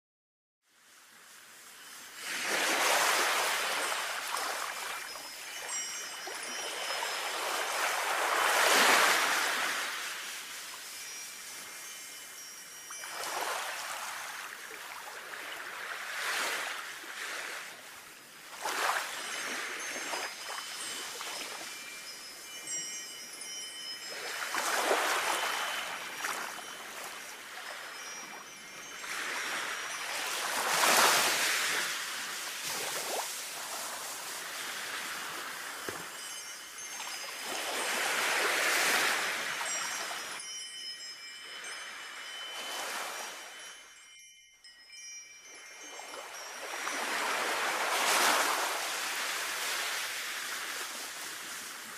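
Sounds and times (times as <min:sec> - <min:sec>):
sea waves washing ashore: 0:00.8 - 0:44.0, 0:44.9 - 0:51.9
wind chimes tinkling: 0:01.3 - 0:51.9.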